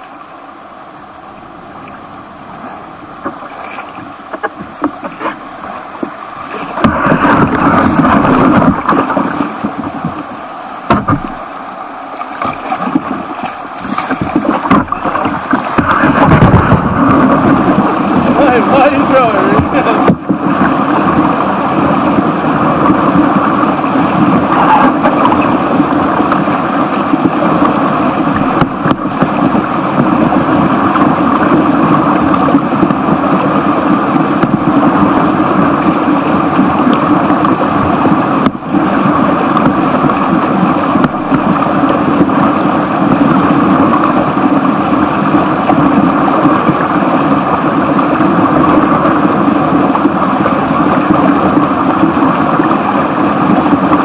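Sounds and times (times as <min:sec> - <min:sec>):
stream rapid rushing: 0:00.0 - 0:54.0.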